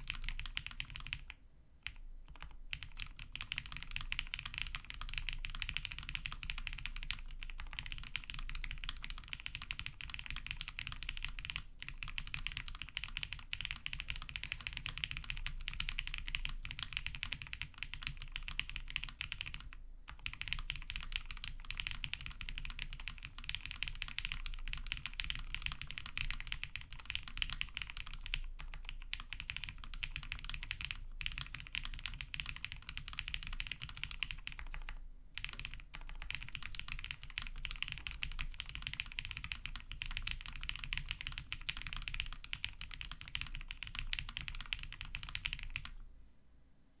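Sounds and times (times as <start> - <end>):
fast mechanical keyboard typing: 0.0 - 46.0.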